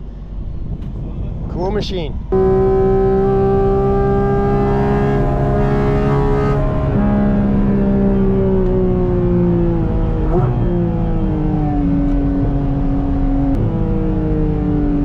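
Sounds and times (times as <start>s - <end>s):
car engine running: 2.3s - 15.0s.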